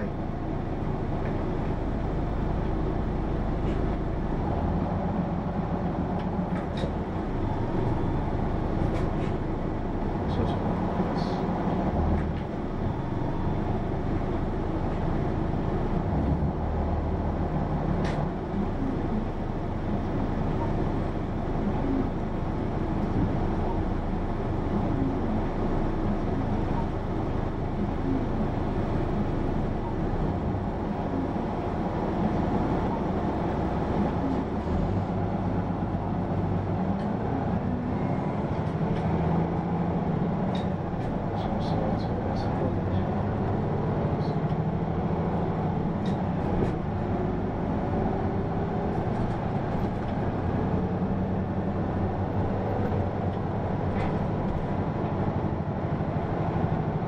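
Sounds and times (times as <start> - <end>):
bus diesel engine drone: 0.0 - 57.0
road noise: 0.0 - 57.0.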